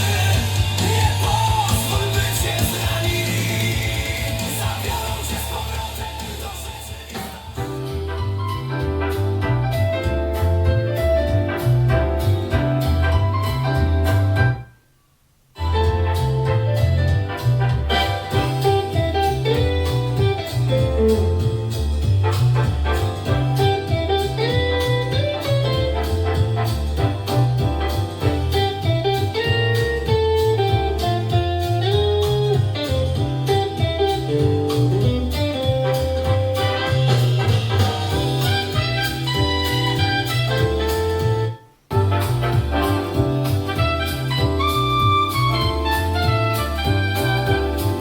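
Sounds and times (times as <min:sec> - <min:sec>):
music with pulsing bass beat: 0:00.0 - 0:14.6, 0:15.6 - 0:48.0.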